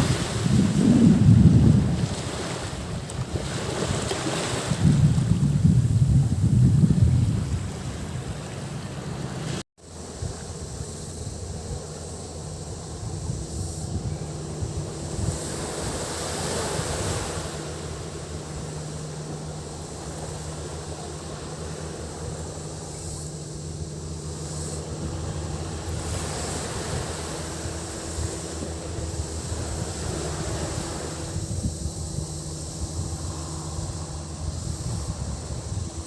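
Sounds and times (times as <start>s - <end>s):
surf washing onto beach: 0.0s - 10.6s, 13.4s - 31.9s
cicada buzz: 0.0s - 36.0s
low motor hum: 0.0s - 36.0s.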